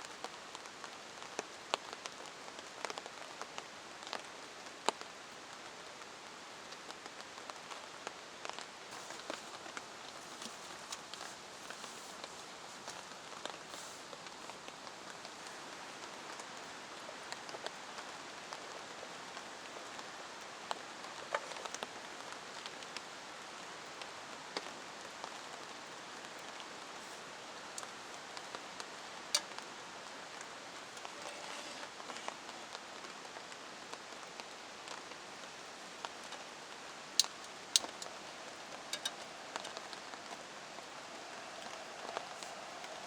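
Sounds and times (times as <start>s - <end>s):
steady rain hiss: 0.0s - 43.0s
raindrops tapping: 0.2s - 43.0s.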